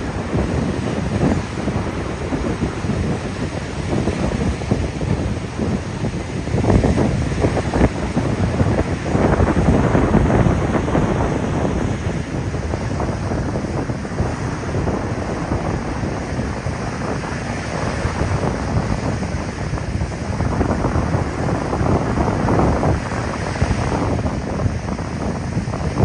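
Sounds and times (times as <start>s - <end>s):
surf breaking on beach: 0.0s - 26.0s.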